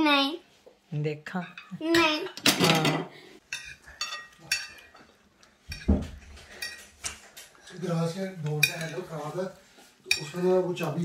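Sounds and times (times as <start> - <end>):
spoons clinking on ceramic plates: 1.4 - 9.3, 10.0 - 11.0.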